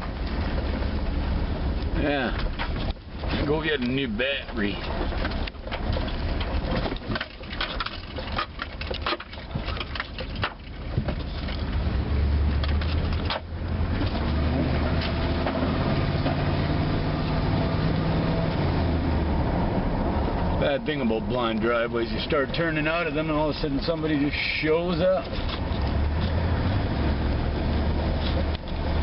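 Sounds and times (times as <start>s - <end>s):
tyres crunching and crackling: 0.0s - 29.0s
vehicle engine droning: 0.0s - 29.0s.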